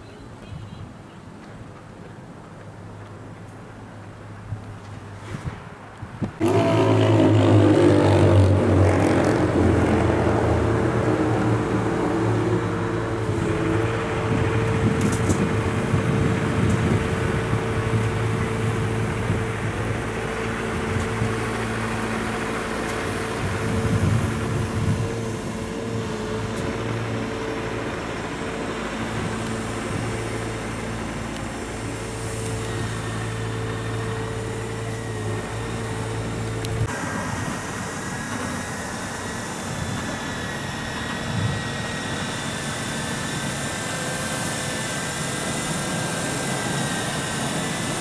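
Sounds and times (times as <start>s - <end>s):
construction machinery engine drone: 0.0s - 48.0s
road traffic passing: 0.0s - 48.0s.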